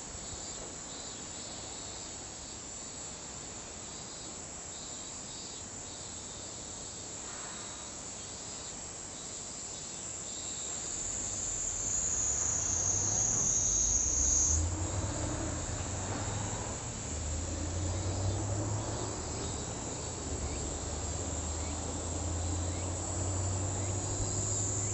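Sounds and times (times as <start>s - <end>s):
cicada high thin buzz: 0.0s - 24.9s.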